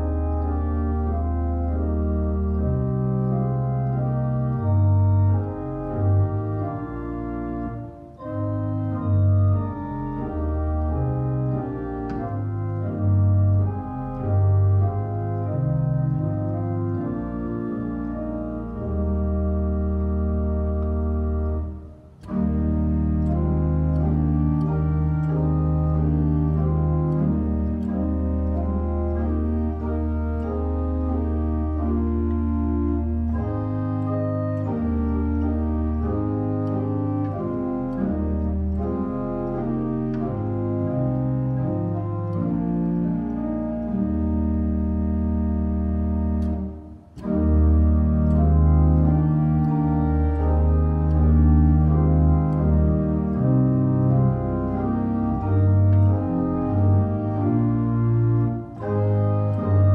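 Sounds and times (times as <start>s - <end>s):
church organ playing chords: 0.0s - 59.9s.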